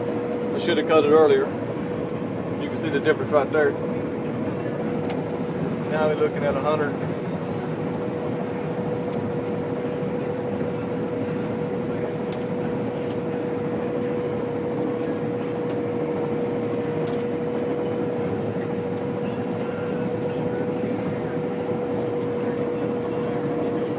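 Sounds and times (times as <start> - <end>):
combine harvester drone: 0.0 - 23.9
constant mechanical whine: 0.0 - 23.9.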